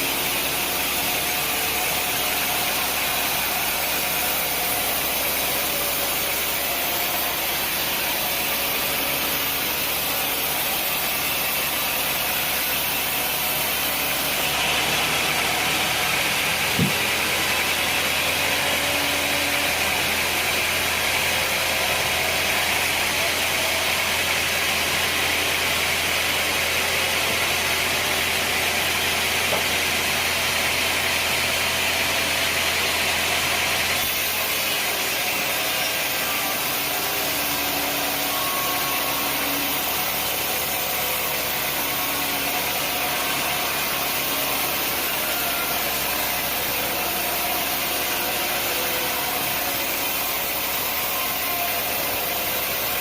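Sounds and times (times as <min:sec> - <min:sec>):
sawmill machinery droning: 0:00.0 - 0:53.0.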